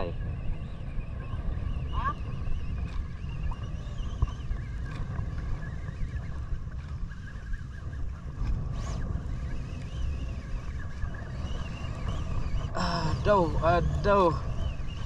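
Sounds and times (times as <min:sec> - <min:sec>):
boat engine running: 0:00.0 - 0:15.0
wind rumbling on microphone: 0:00.0 - 0:15.0.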